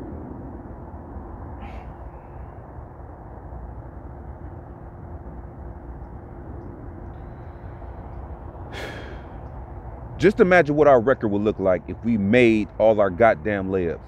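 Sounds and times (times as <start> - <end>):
faint constant hum: 0.0 - 14.0
low-pitched background noise: 0.0 - 14.0.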